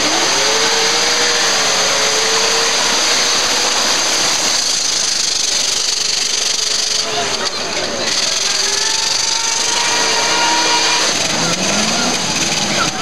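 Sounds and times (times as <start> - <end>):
engine at high revs: 0.0 - 13.0
wheels spinning in mud: 0.0 - 13.0.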